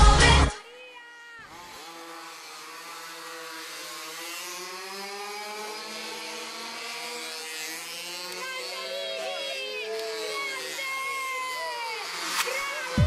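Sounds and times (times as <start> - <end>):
vehicle engine speeding up: 1.6 - 13.0.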